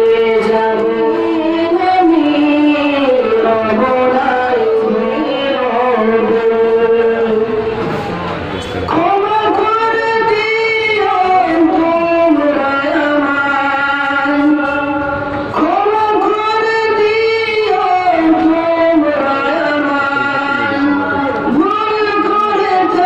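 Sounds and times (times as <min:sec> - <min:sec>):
man singing: 0:00.0 - 0:07.8, 0:08.9 - 0:23.0.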